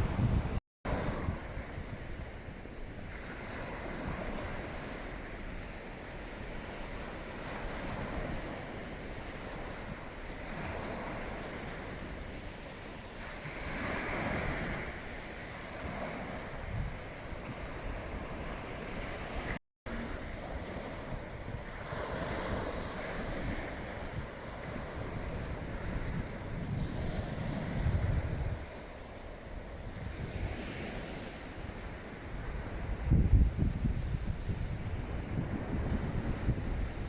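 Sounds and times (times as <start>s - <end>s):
waves washing onto beach: 0.0s - 37.0s
wind buffeting microphone: 0.0s - 37.0s.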